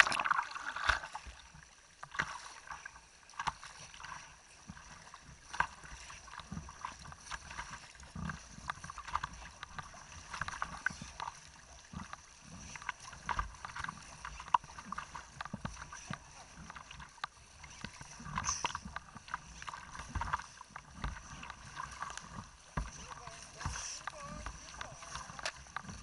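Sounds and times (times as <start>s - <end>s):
river water splashing: 0.0s - 26.0s.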